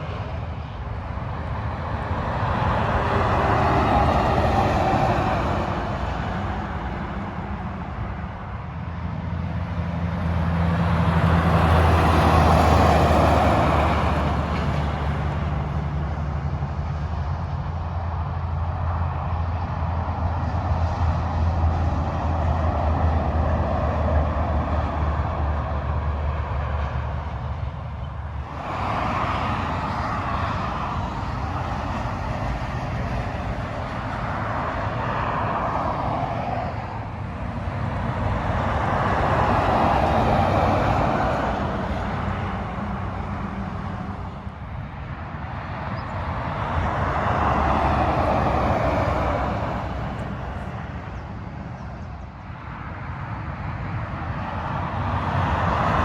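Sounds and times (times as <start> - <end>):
truck engine drone: 0.0 - 51.7
freeway traffic passing: 0.0 - 56.0.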